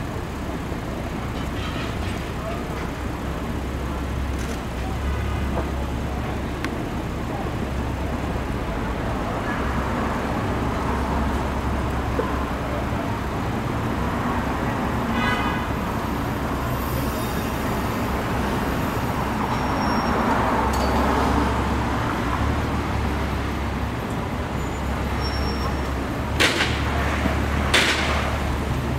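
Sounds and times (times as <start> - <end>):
passing cars: 0.0 - 28.9.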